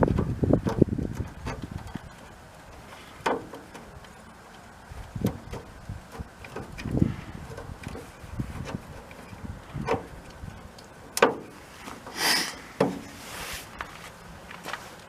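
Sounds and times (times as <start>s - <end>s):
scraping rustle: 0.0s - 15.0s.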